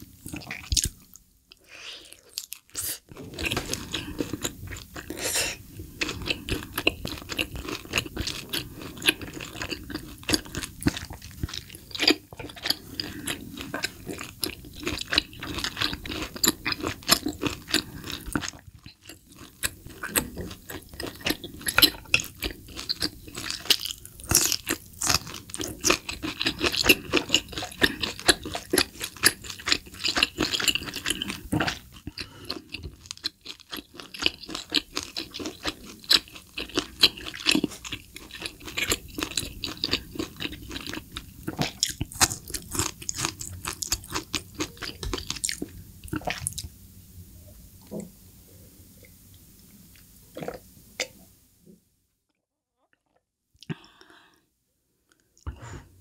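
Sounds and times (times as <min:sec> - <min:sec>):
close chewing and crunching: 0:00.0 - 0:01.3, 0:02.0 - 0:46.7.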